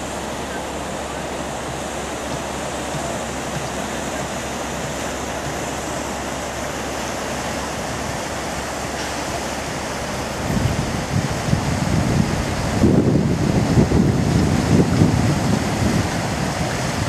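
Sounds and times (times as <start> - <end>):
flowing river water: 0.0 - 17.0
wind buffeting microphone: 1.6 - 17.0.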